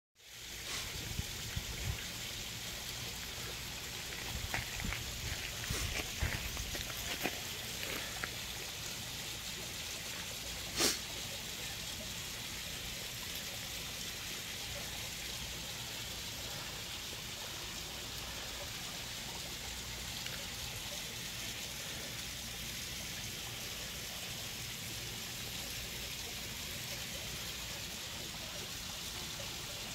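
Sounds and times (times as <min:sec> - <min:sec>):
outdoor rushing hiss: 0:00.2 - 0:28.7.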